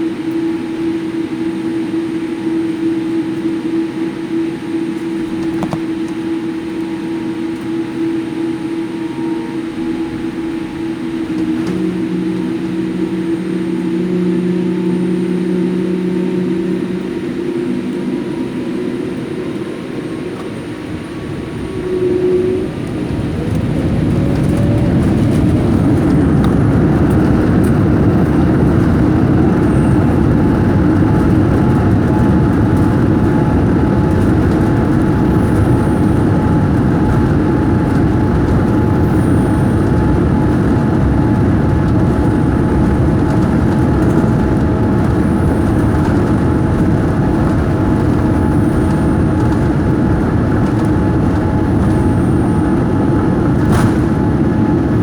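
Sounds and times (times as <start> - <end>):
faint engine whine: 0.0 - 55.0
jet engine and airflow rush: 0.0 - 55.0.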